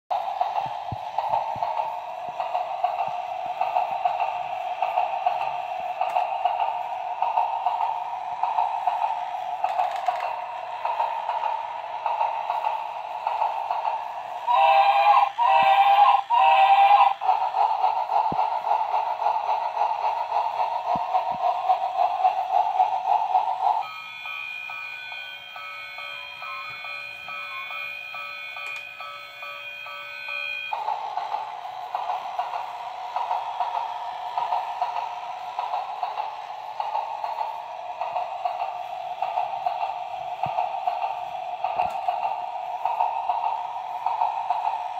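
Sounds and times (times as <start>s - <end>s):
toy train motor whirring: 0.2s - 44.9s.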